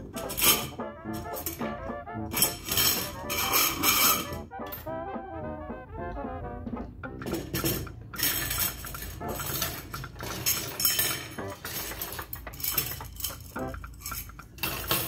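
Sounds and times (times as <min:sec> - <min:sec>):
steel rods clinking: 0:00.0 - 0:04.9, 0:07.2 - 0:15.0.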